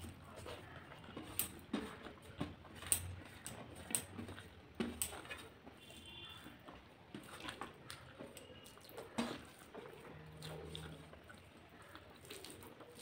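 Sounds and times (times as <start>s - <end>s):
chewing mouth sounds: 0.0s - 13.0s
fingers mixing food on steel plate: 0.0s - 13.0s.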